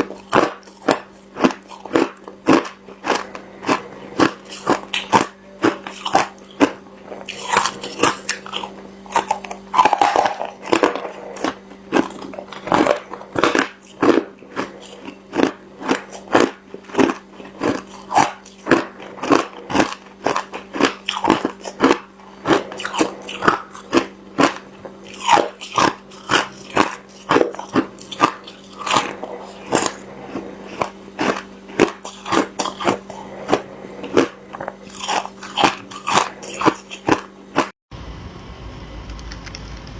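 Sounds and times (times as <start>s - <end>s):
chewing crushed ice: 0.0s - 37.8s.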